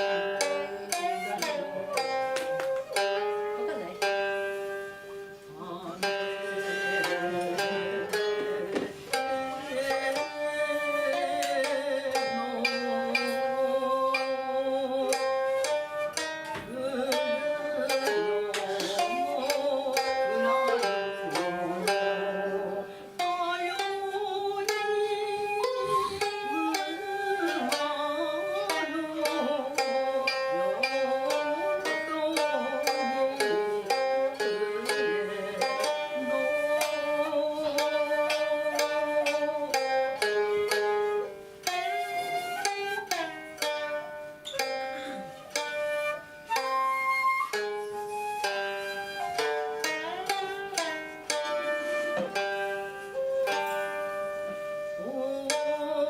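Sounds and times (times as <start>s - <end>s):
koto plucked strings: 0.0s - 56.0s
shakuhachi sliding notes: 0.0s - 56.0s.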